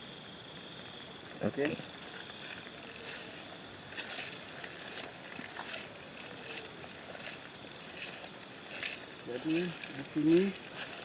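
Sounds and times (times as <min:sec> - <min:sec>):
insects chirping: 0:00.0 - 0:11.0
footsteps on damp forest floor: 0:01.3 - 0:11.0.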